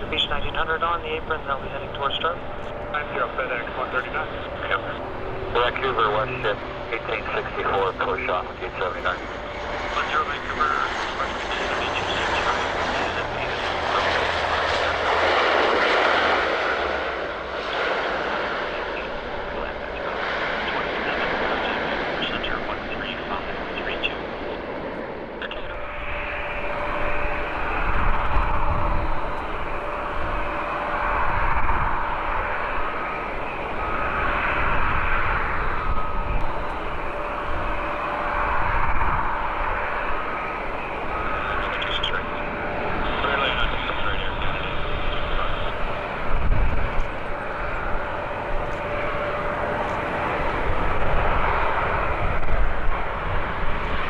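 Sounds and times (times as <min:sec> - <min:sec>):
airliner engine noise: 0:00.0 - 0:54.0
steady low hum: 0:00.0 - 0:54.0.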